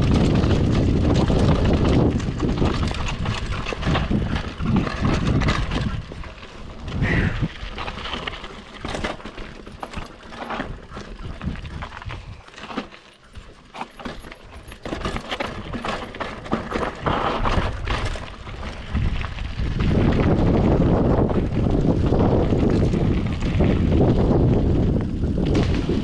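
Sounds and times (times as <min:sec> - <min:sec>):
mountain bike rattling over bumps: 0:00.0 - 0:26.0.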